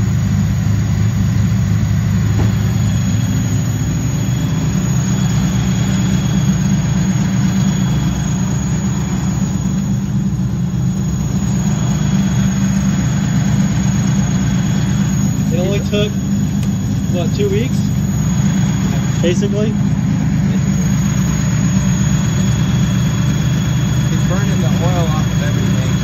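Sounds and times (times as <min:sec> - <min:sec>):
car engine idling loudly: 0:00.0 - 0:26.0.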